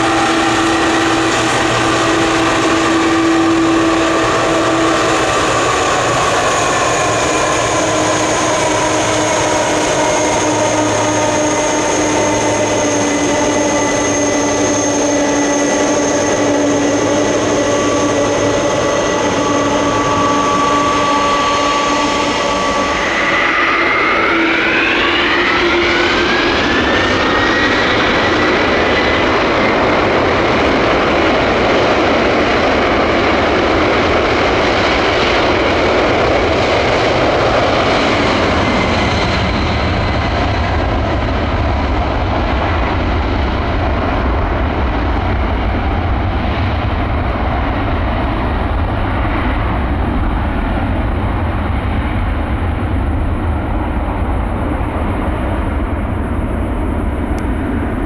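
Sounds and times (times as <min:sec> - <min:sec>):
jet engine heavy roar: 0:00.0 - 0:58.0
jet engines whining: 0:00.0 - 0:58.0.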